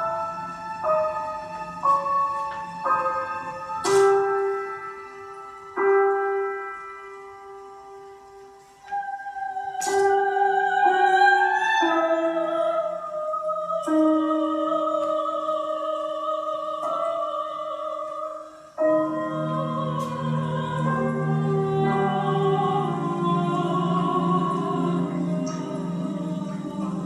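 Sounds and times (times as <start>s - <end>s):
instrumental accompaniment: 0.0s - 27.0s
soprano singing held notes: 0.0s - 27.0s.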